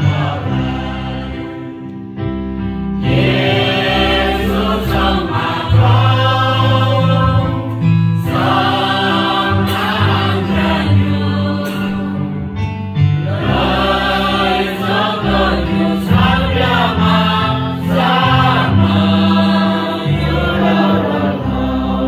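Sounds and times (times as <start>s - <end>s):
congregation singing a hymn: 0.0s - 2.4s, 3.0s - 22.0s.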